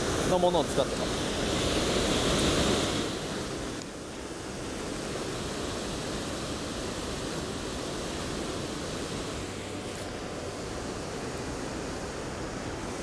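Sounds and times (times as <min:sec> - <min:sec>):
water rushing over weir: 0:00.0 - 0:13.0.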